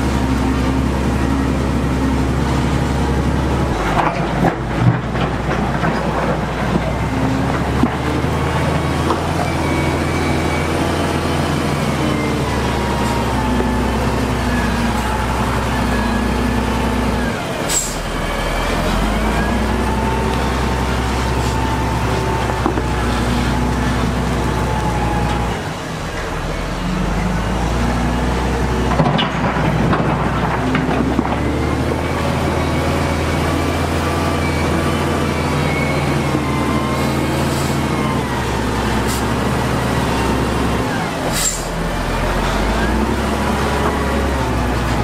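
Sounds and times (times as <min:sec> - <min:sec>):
heavy diesel engines running: 0:00.0 - 0:45.0.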